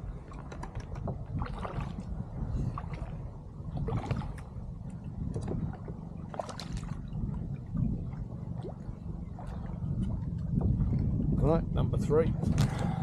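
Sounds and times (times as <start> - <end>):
water splashing and gurgling: 0.0 - 11.6
steady low rumble: 0.0 - 13.0.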